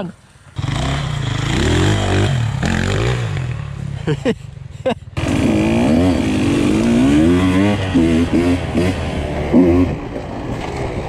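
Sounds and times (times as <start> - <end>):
dirt bike engine revving: 0.6 - 4.4, 5.1 - 11.0.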